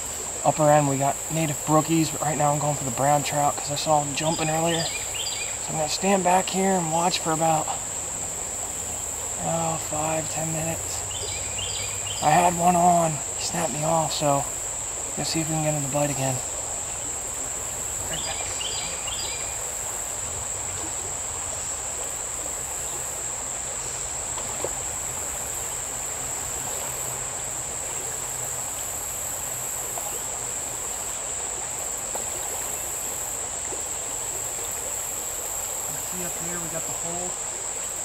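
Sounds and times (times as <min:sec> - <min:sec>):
insects droning: 0:00.0 - 0:38.0
stream rushing: 0:00.0 - 0:38.0.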